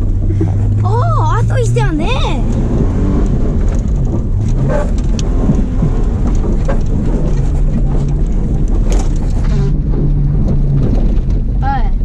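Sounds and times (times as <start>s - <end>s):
car driving over rough dirt: 0.0s - 12.0s.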